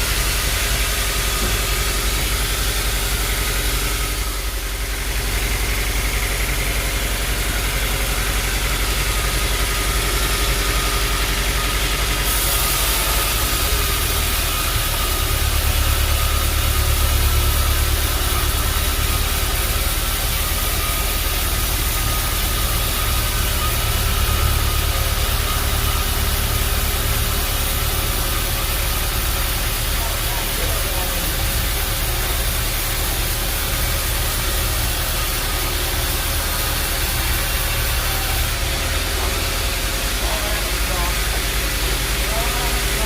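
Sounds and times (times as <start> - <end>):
sawmill machinery drone and hiss: 0.0 - 43.0.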